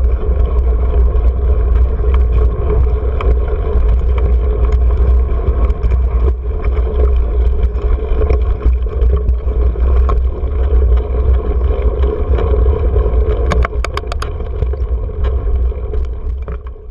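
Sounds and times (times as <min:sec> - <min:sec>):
bike rattles and clicks: 0:00.0 - 0:16.9
wind buffeting camera: 0:00.0 - 0:16.9.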